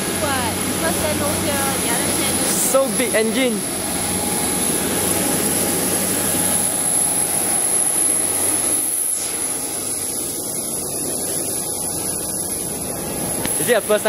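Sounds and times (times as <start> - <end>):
jet turbine rushing and whining: 0.0 - 14.0.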